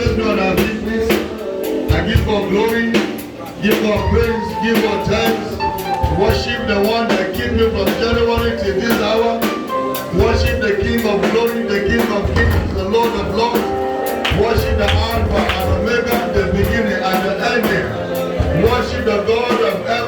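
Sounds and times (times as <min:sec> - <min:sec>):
live worship music with drums: 0:00.0 - 0:20.0.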